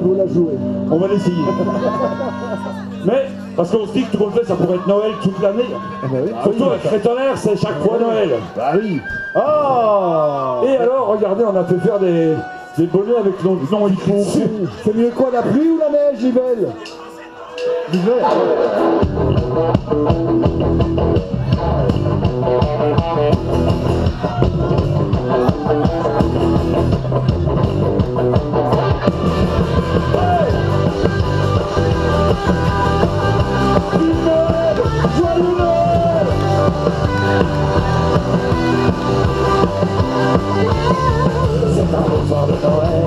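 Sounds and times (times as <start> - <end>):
rock band playing: 0.0 - 14.8, 15.8 - 43.0.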